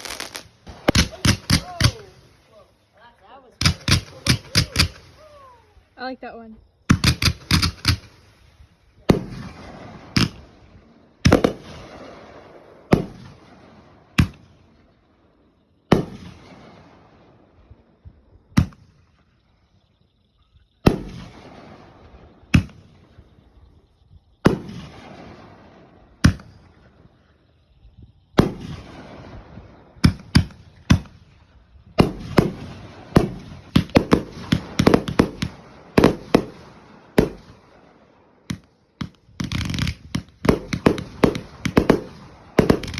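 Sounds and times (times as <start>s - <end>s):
fireworks bangs: 0.0s - 19.3s, 20.7s - 42.9s
fireworks crackle: 0.0s - 42.9s.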